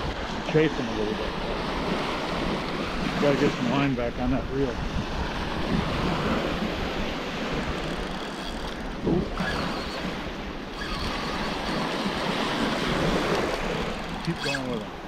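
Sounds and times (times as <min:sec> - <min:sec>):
surf washing on beach: 0:00.0 - 0:08.0, 0:08.8 - 0:15.0
wind on microphone: 0:00.0 - 0:15.0.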